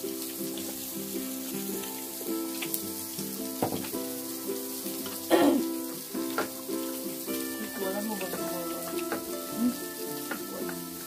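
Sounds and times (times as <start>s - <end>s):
background music melody: 0.0s - 11.0s
meat sizzling on a grill pan: 0.0s - 11.0s.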